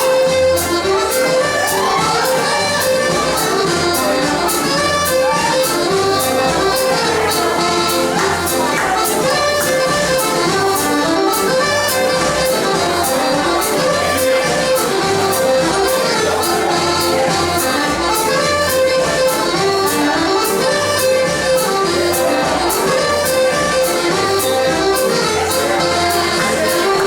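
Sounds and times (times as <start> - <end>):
accordion dance music: 0.0 - 27.0
steady drum beat: 0.0 - 27.0.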